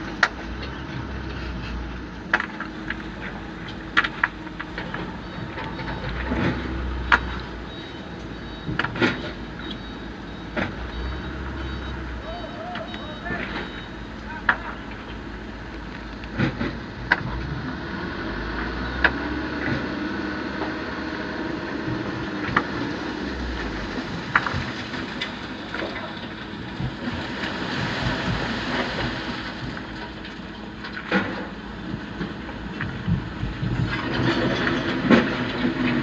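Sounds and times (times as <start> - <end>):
heavy diesel engines rumbling: 0.0 - 36.0.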